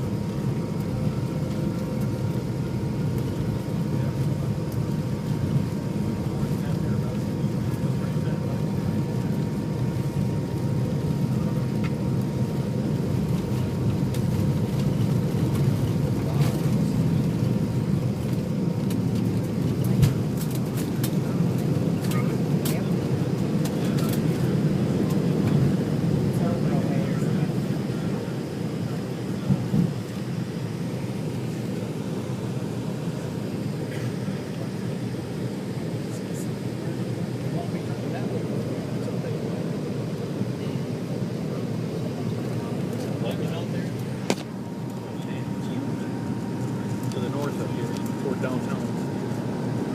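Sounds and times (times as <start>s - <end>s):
jet engine cabin rumble: 0.0s - 49.9s.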